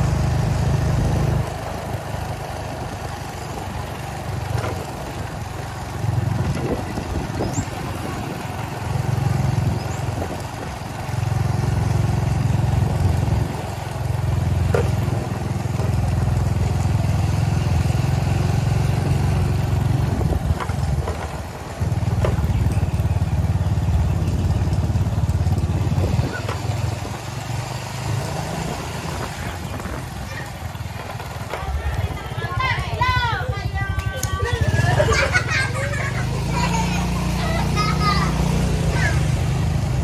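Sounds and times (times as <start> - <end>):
motor vehicle engine rumbling: 0.0 - 40.0.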